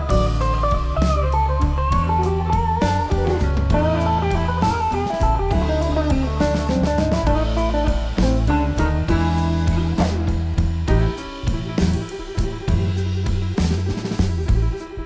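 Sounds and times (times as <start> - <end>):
electric guitar melody: 0.0 - 13.7
bass and drums: 0.0 - 15.0.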